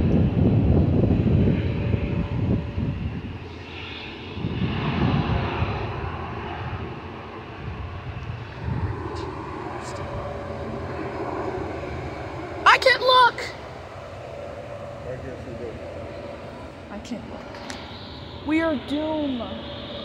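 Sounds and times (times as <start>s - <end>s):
distant jet engines rumbling: 0.0s - 20.0s.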